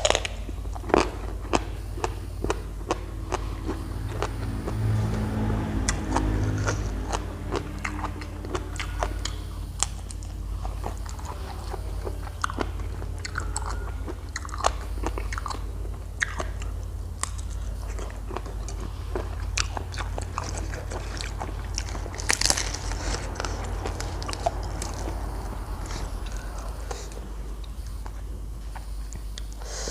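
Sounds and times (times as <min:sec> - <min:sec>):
person chewing and crunching: 0:00.0 - 0:29.9.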